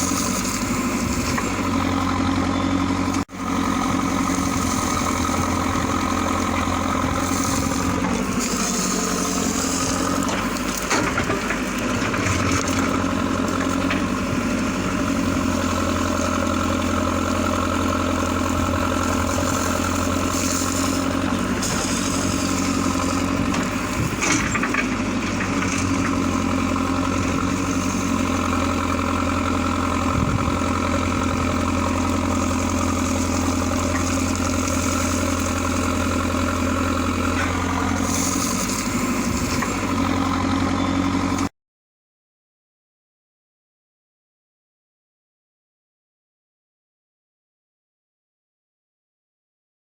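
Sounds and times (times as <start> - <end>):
backhoe knocks and clanks: 0.0 - 41.5
tractor diesel engine running: 0.0 - 41.5.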